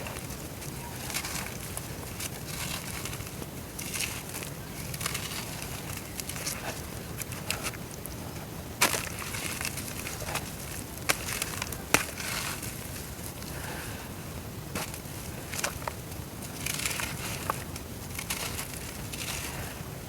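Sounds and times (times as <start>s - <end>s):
dirt crumbling and crackling in water: 0.0s - 19.9s.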